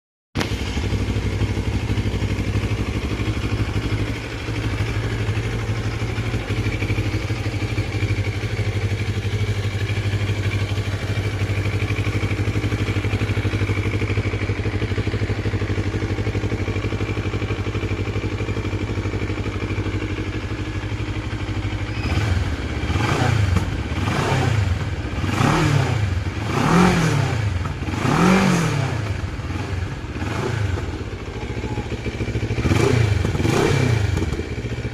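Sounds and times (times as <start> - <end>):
motorcycle engine idling and revving: 0.4 - 34.9.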